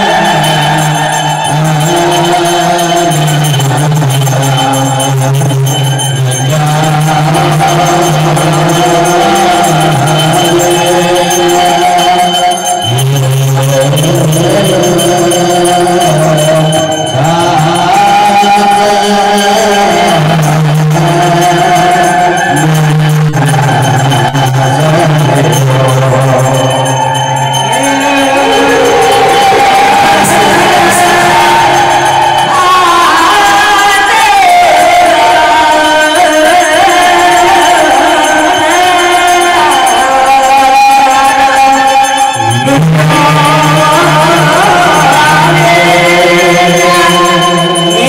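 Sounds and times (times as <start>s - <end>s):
jingling percussion: 0.0s - 48.0s
low voices chanting in unison: 0.0s - 48.0s.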